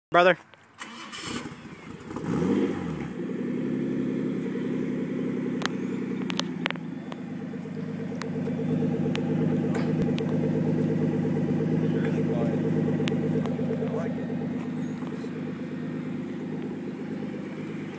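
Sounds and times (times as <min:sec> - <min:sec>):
car engine idling: 0:00.8 - 0:17.9.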